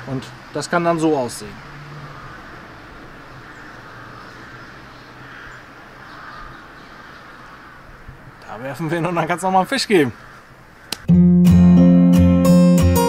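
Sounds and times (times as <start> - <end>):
faint distant bird calls: 0.0 - 11.1.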